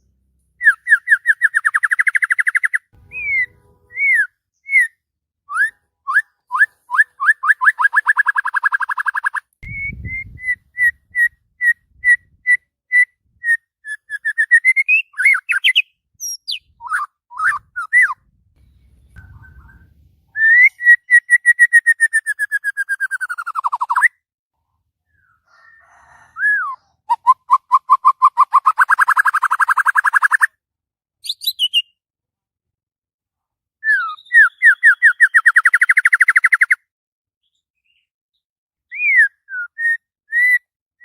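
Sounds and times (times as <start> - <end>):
songbird singing trills and whistles: 0.5 - 24.2, 25.1 - 30.5, 31.2 - 32.0, 33.8 - 36.8, 38.9 - 40.7.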